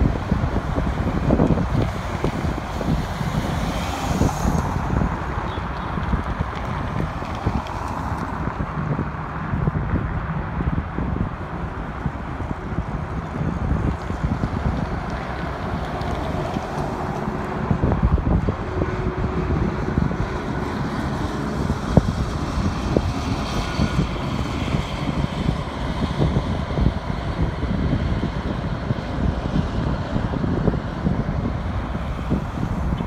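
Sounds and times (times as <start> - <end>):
cars driving past: 0.0 - 33.0
wind buffeting microphone: 0.0 - 33.0.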